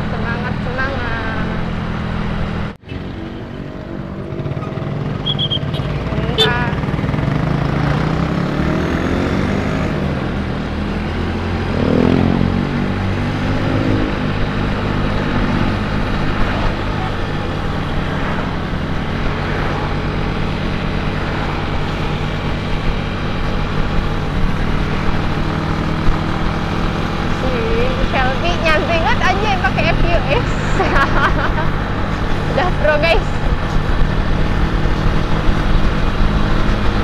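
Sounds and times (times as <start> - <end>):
scooter engine running: 3.0 - 9.3, 10.1 - 37.0.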